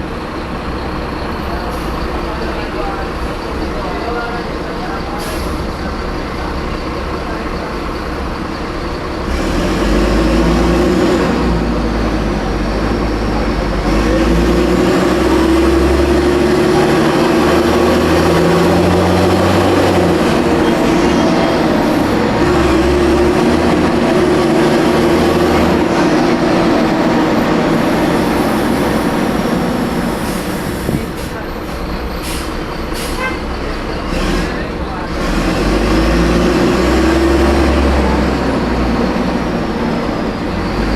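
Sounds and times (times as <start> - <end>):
bus diesel engine under load: 0.0 - 40.9.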